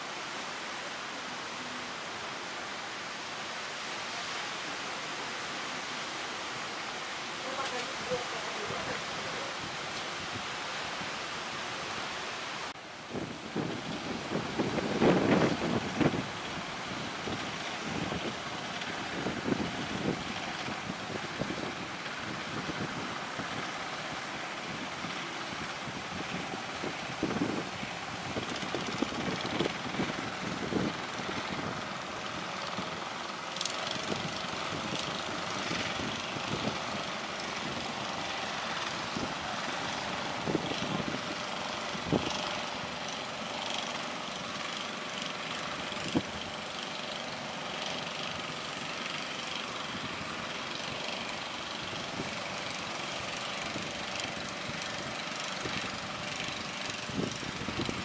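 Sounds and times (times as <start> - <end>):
boat motor running: 0.0 - 58.0
water noise: 0.0 - 58.0
wind: 0.0 - 58.0.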